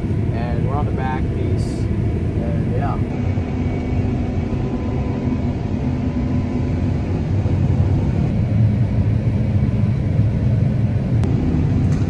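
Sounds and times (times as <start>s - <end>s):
combine harvester rumbling: 0.0s - 12.0s.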